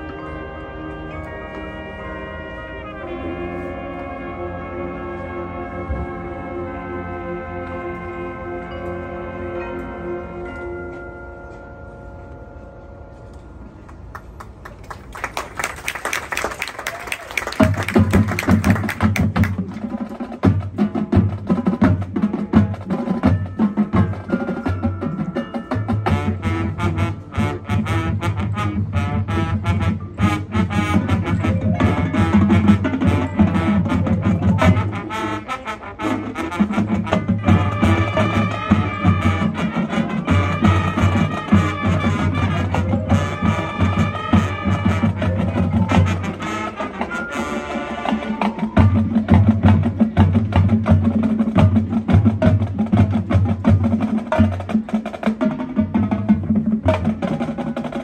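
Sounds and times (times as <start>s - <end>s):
marching band playing: 0.0s - 58.0s.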